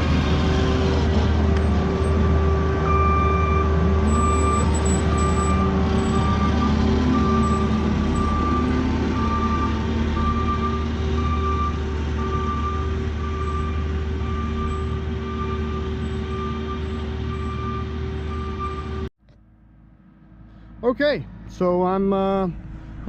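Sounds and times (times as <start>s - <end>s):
earth-moving machine engine running: 0.0s - 19.0s.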